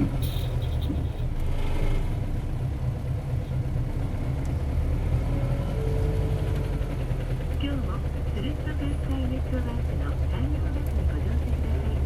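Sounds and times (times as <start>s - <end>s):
diesel bus engine rumbling: 0.0s - 12.0s.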